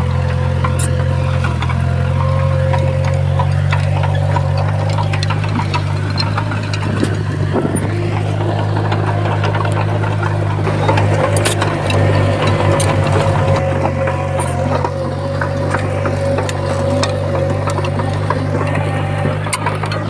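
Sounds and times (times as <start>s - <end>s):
bulldozer diesel engine running: 0.0s - 20.0s
steady whine: 0.0s - 20.0s
metallic clicks and clanks: 0.1s - 20.0s.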